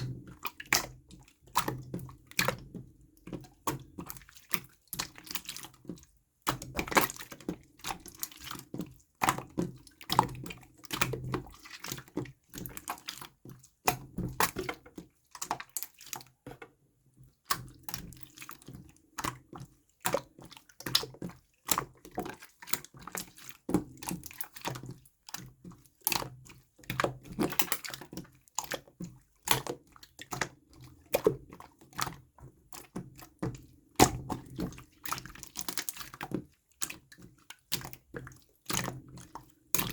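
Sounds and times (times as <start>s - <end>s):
slime squishing with wet clicks: 0.0s - 39.9s.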